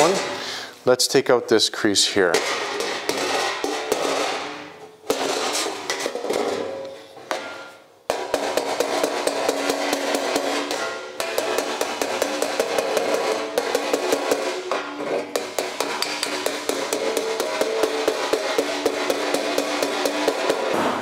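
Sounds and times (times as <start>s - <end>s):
hammer tapping on sheet metal: 2.3s - 6.2s, 7.3s - 21.0s.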